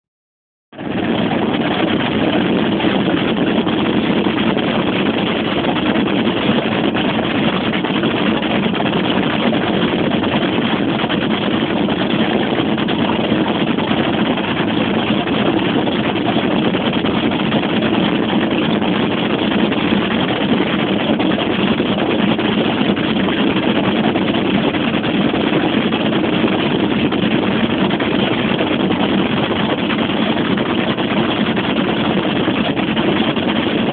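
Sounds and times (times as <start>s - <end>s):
motorboat engine and rushing water: 0.7s - 33.9s.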